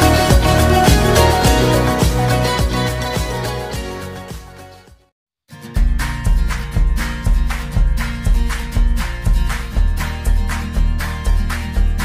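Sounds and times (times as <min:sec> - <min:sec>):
intro music with steady beat: 0:00.0 - 0:05.0, 0:05.7 - 0:12.0.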